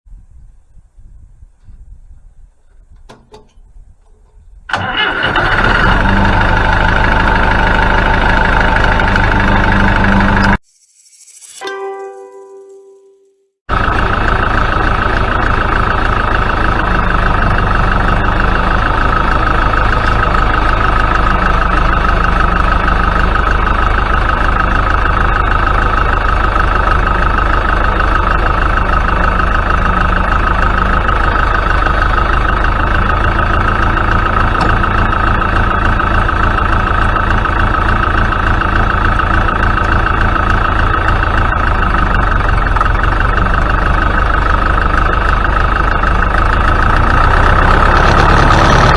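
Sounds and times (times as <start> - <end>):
tractor engine running: 1.7 - 10.6, 13.7 - 48.9.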